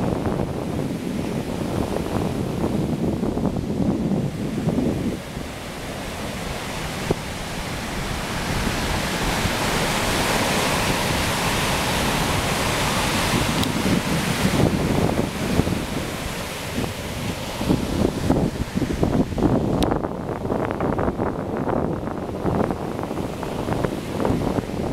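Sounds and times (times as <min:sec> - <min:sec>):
ocean surf breaking: 0:00.0 - 0:24.9
wind buffeting microphone: 0:00.0 - 0:24.9.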